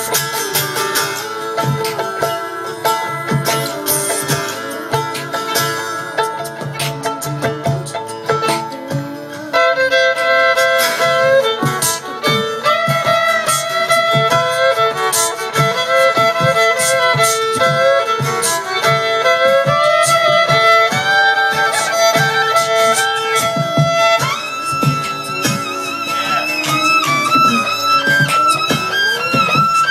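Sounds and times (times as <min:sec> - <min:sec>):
fiddle playing melody: 0:00.0 - 0:29.9
guitar: 0:00.0 - 0:29.9
percussive beat: 0:00.0 - 0:29.9.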